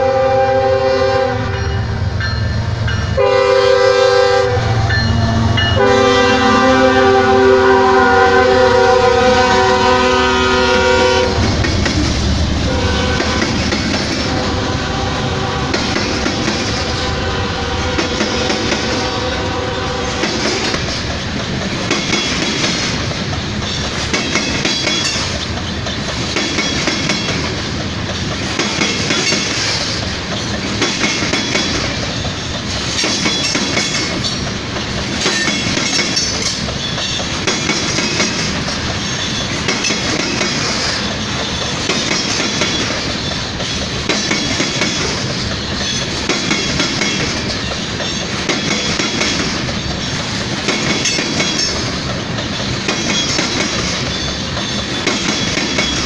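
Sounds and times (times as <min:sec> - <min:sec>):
train wheels rumbling on rail: 0:00.0 - 0:56.0
clickety-clack over rail joints: 0:07.9 - 0:56.0.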